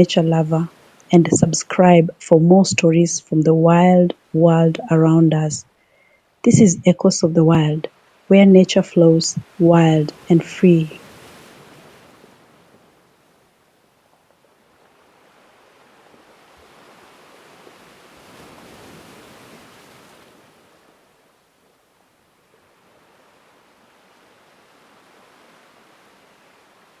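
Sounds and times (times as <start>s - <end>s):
faint ocean surf: 0.0s - 27.0s.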